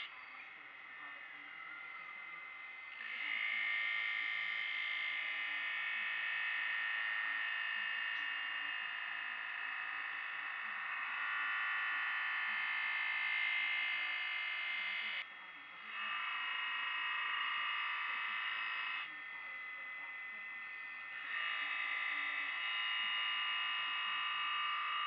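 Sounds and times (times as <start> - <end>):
glass-cutting wheel grinding whine: 0.0 - 0.5, 1.2 - 15.2, 15.8 - 19.1, 20.4 - 25.0.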